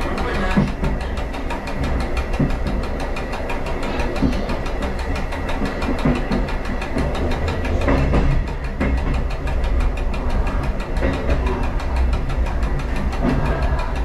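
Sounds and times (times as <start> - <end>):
diesel train engine running: 0.0 - 14.0
fast even rattle: 0.0 - 14.0
knocks: 0.0 - 14.0.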